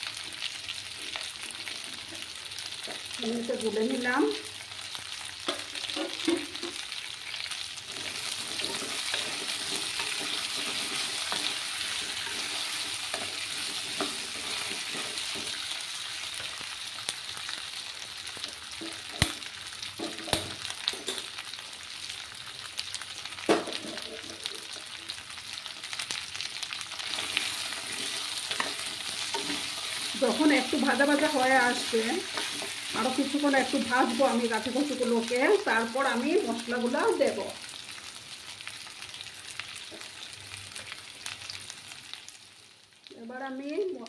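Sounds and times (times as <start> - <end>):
food sizzling in oil: 0.0 - 44.0.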